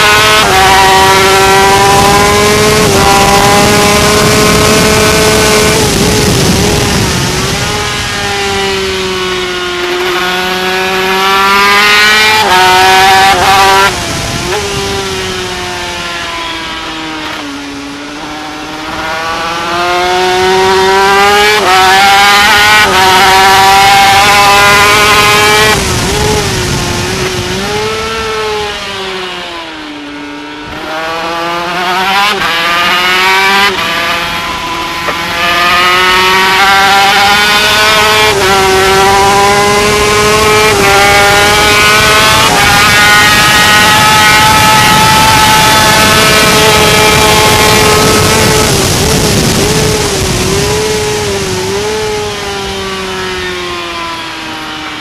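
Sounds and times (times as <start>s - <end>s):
racing motorcycle engine at high revs: 0.0s - 55.0s.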